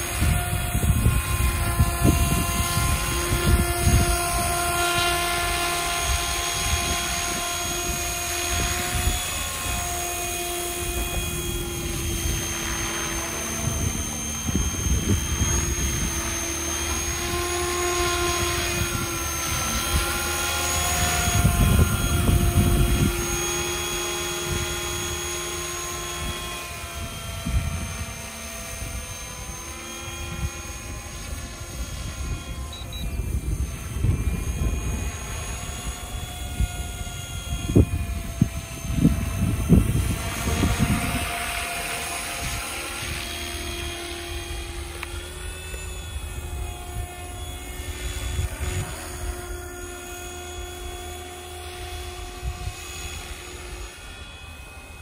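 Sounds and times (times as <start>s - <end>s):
model helicopter rotor whine: 0.0s - 55.0s.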